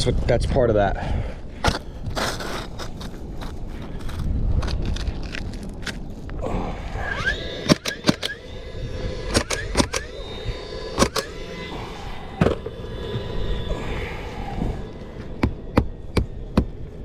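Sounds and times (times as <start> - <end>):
faint steady whine: 0.0 - 17.0
low rumbling background: 0.0 - 17.0.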